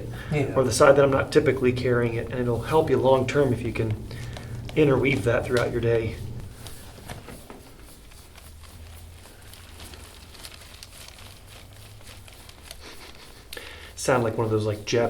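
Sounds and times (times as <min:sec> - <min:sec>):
faint low hum: 0:00.0 - 0:15.0
hands rustling on clothing: 0:00.0 - 0:15.0.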